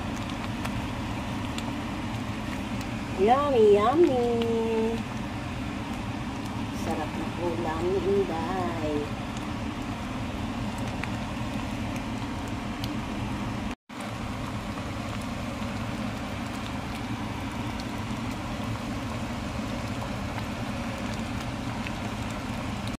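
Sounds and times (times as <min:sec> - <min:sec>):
low steady hum: 0:00.0 - 0:23.0
soup boiling and bubbling: 0:00.0 - 0:23.0.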